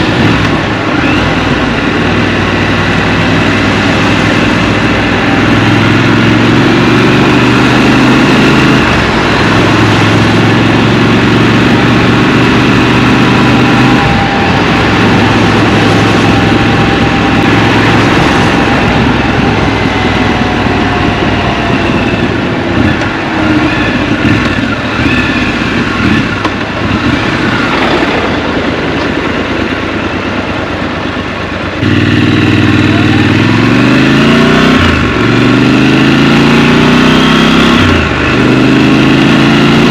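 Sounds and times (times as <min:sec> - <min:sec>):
motorcycle engine: 0:00.0 - 0:39.9
road and traffic noise: 0:00.0 - 0:39.9.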